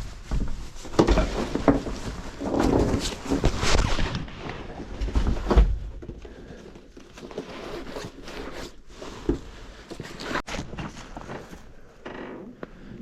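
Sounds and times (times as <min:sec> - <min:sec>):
clothing rustling: 0:00.0 - 0:12.0.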